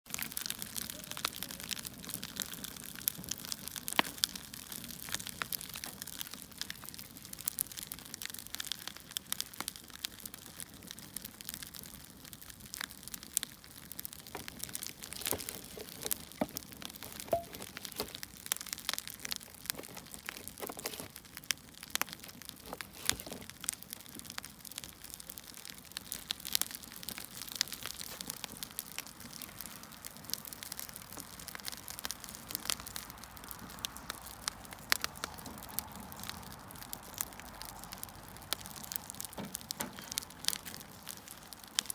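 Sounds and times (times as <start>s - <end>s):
wood fire crackling: 0.1s - 41.9s.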